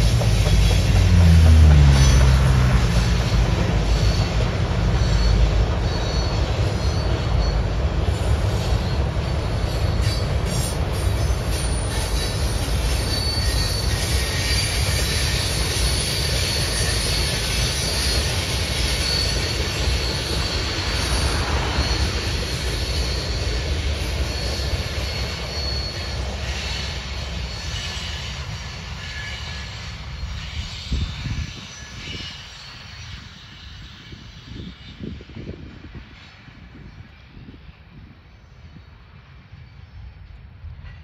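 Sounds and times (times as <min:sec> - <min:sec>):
high wheel squeals: 0:00.0 - 0:37.6
freight train rumble: 0:00.0 - 0:41.0.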